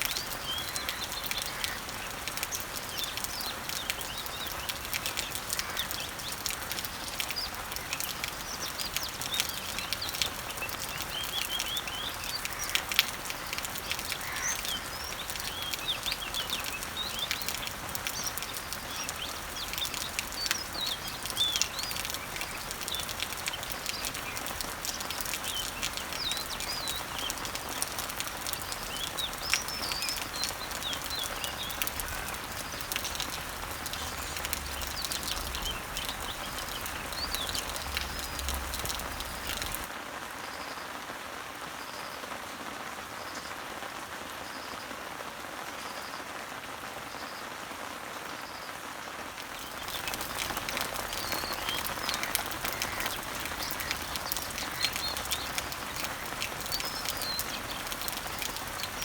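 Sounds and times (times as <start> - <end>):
birds chirping: 0.0 - 39.9, 49.4 - 59.0
rain falling on leaves: 0.0 - 59.0.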